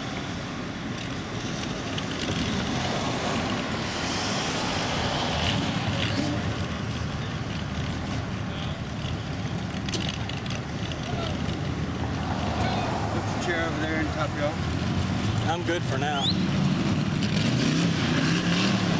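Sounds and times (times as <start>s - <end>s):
cars driving past: 0.0s - 18.9s.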